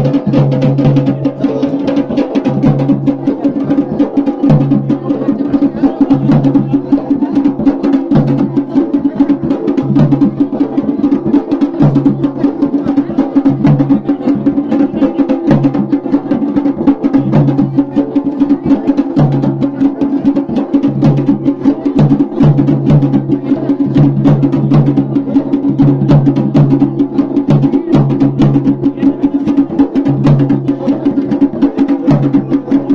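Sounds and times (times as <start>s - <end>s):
fast steady drumming: 0.0s - 32.9s.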